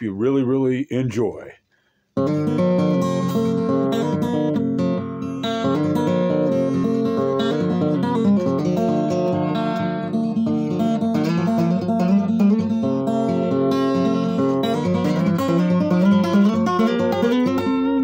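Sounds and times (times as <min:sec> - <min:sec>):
fingerpicked acoustic guitar: 0:01.8 - 0:18.0.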